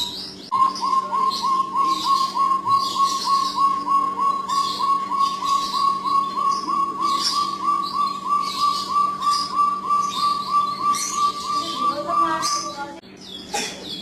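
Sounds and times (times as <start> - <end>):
birds chirping: 0.0 - 14.0
faint steady hum: 0.0 - 14.0.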